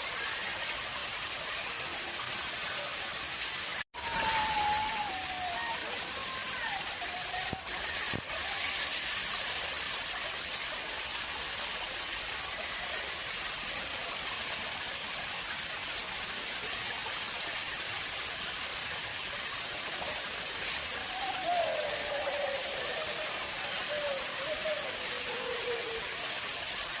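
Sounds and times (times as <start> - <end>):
water splashing into pond: 0.2 - 27.0.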